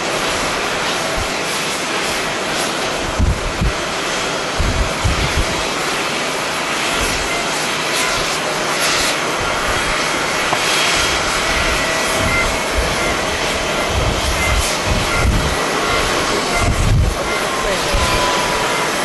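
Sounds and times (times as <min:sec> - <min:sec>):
jet airliner engines roaring: 0:00.0 - 0:19.0
wind gusts on microphone: 0:00.1 - 0:06.2, 0:08.1 - 0:18.7.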